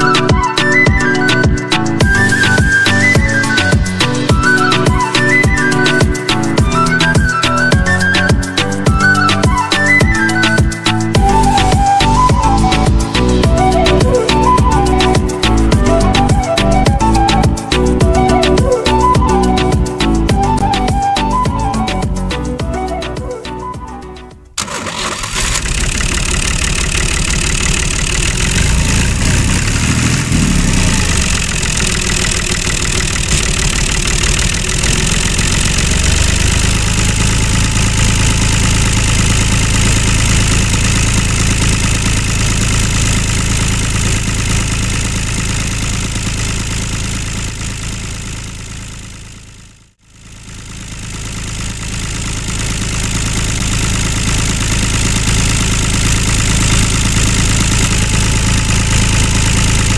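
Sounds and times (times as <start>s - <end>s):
tractor engine running: 0.0s - 23.0s, 24.4s - 59.9s.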